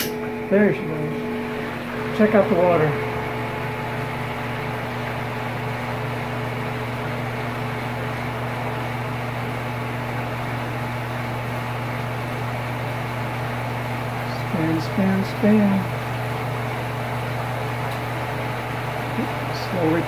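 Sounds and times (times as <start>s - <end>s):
washing machine pump humming: 0.0s - 20.0s.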